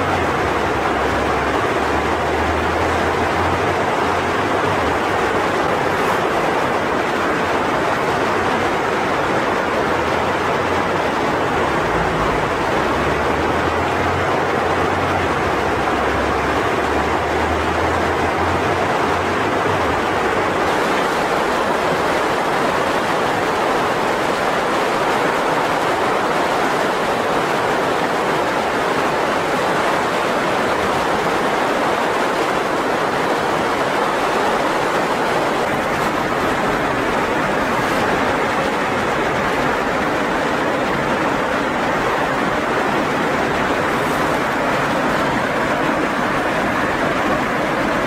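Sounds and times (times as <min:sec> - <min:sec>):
river rushing over rapids: 0:00.0 - 0:48.0.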